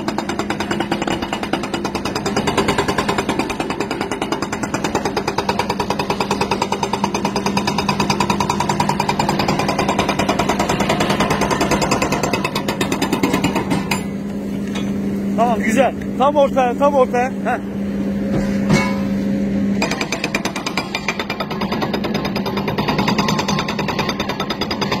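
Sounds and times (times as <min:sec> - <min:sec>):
hydraulic breaker hammering rock: 0:00.0 - 0:15.0, 0:19.8 - 0:25.0
excavator engine running: 0:00.0 - 0:25.0.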